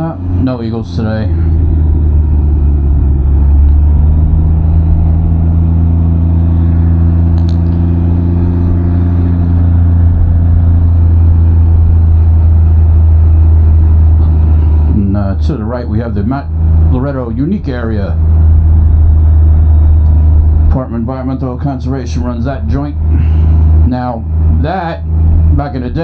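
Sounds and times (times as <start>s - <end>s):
deep engine drone: 0.0s - 26.0s
road and wind noise: 0.0s - 26.0s.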